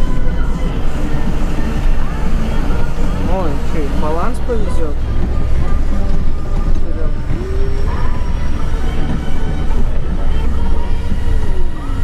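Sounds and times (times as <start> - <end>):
diesel truck engine rumble: 0.0 - 12.0
road noise: 0.0 - 12.0.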